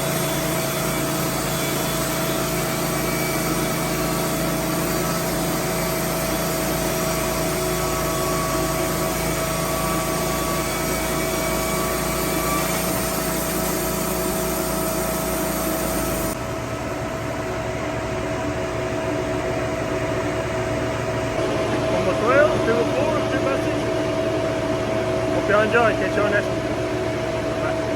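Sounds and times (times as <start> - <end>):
small engine running with whine: 0.0 - 27.9.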